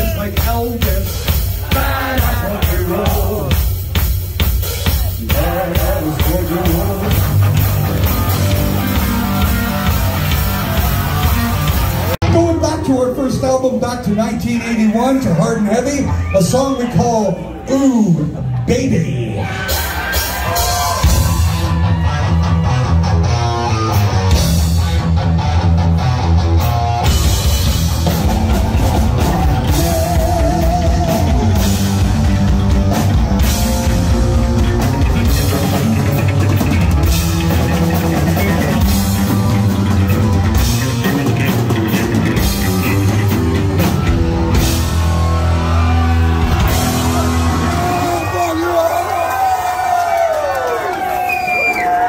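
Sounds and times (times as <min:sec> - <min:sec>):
heavy metal band playing live: 0:00.0 - 0:14.2, 0:19.4 - 0:50.1.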